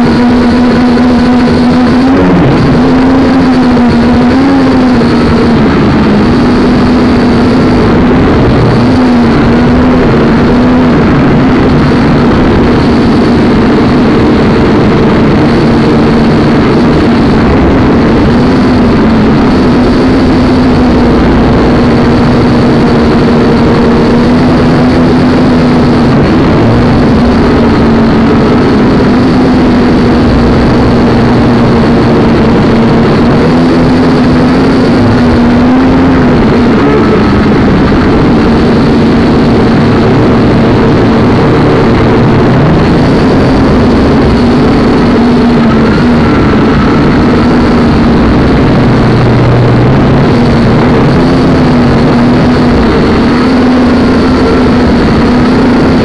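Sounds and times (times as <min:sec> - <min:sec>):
quadcopter motors buzzing whine: 0:00.0 - 0:56.0.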